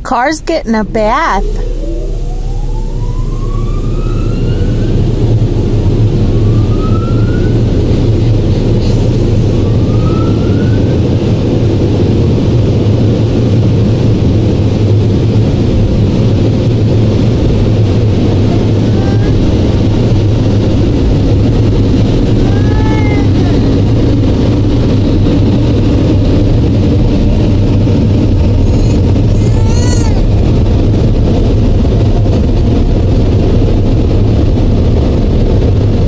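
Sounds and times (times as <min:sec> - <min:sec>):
car wash machinery and water: 0:00.0 - 0:36.0
faint short rising whines: 0:00.8 - 0:36.0.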